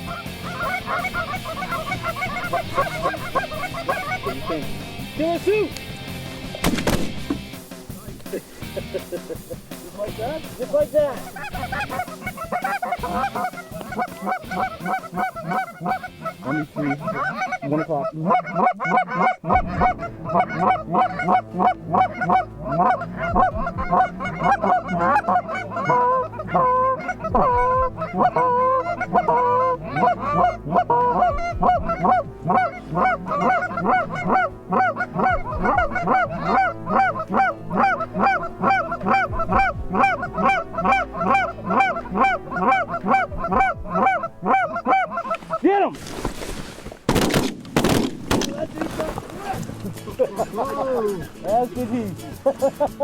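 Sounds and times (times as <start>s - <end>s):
geese honking: 0.0s - 53.0s.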